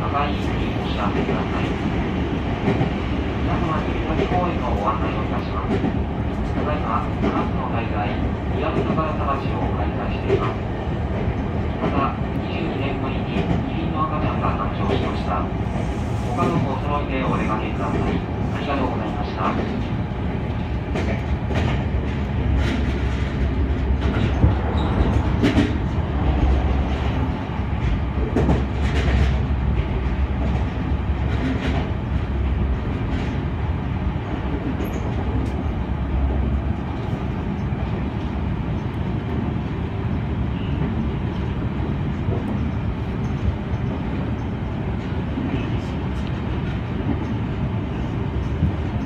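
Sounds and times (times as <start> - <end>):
train rumble: 0.0 - 49.0.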